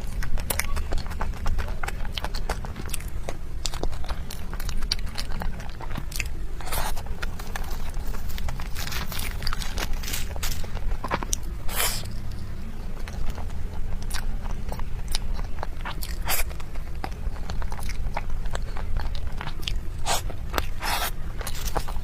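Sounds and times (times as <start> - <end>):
biting and chewing food: 0.0 - 22.0.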